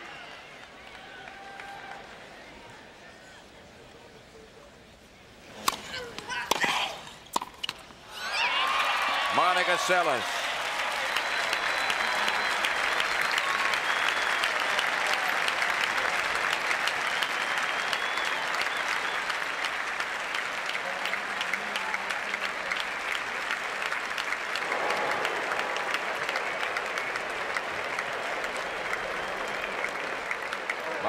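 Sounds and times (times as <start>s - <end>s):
stadium crowd applauding: 0.0s - 2.8s, 8.2s - 31.0s.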